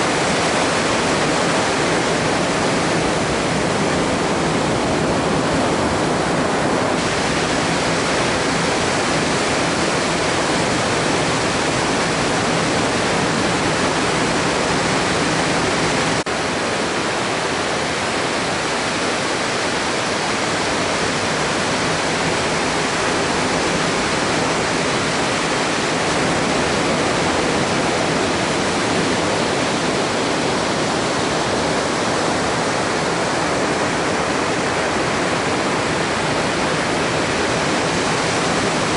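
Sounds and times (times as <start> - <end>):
ocean surf roaring: 0.0 - 38.9.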